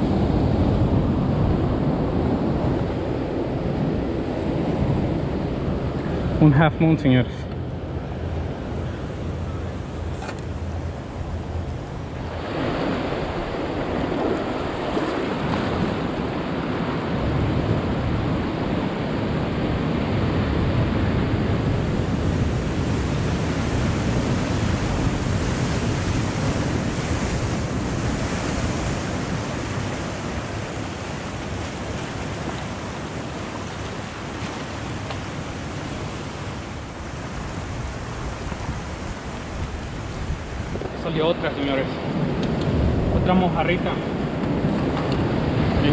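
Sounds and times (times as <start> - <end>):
wind on microphone: 0.0 - 6.5, 7.1 - 45.9
ocean surf breaking over rocks: 0.0 - 45.9.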